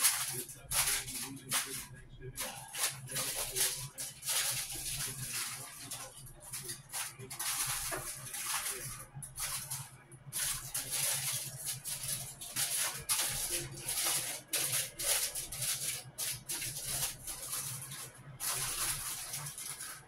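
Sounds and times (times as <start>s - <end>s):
low steady hum: 0.0s - 19.9s
rustling and crinkling: 0.0s - 20.0s.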